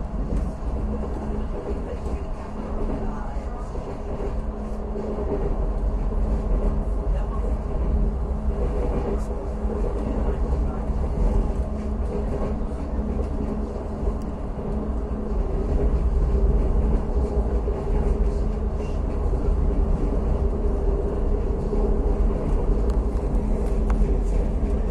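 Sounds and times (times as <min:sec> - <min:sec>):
train wheels rumbling: 0:00.0 - 0:24.9.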